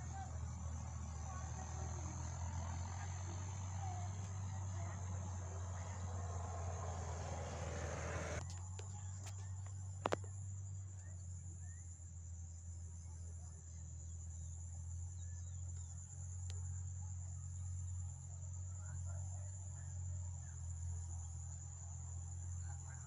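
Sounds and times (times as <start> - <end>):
pulsing insect chirp: 0.0 - 23.0.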